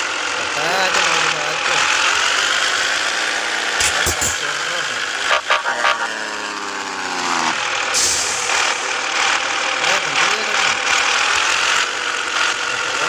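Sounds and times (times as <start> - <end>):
road and air noise hiss: 0.0 - 13.0
truck engine running: 0.0 - 13.0.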